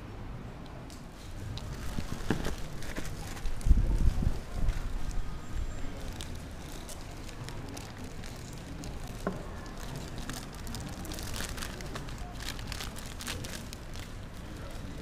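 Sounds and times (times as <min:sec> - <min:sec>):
plastic wrapping crinkling: 0:01.2 - 0:15.0.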